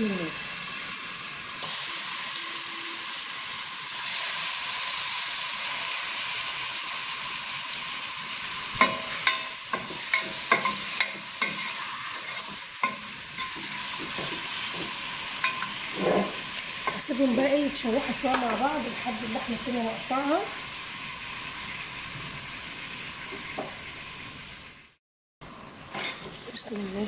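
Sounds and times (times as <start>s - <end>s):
meat sizzling in a pot: 0.0s - 27.0s.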